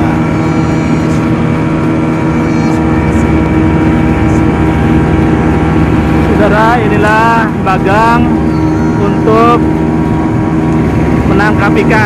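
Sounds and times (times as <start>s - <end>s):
speedboat engine hum: 0.0s - 12.0s.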